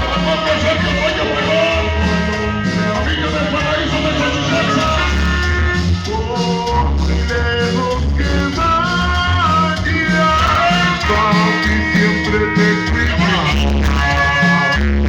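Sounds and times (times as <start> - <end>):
loud music with pulsing bass: 0.0 - 15.0.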